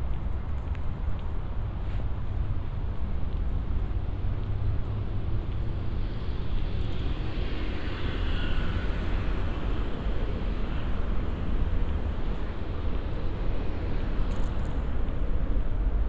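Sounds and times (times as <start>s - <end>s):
low rumble of city ambience: 0.0s - 16.0s.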